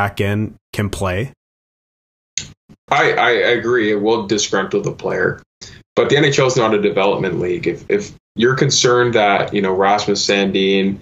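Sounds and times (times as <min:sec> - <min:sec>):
man speaking: 0:00.0 - 0:01.4, 0:02.9 - 0:11.0.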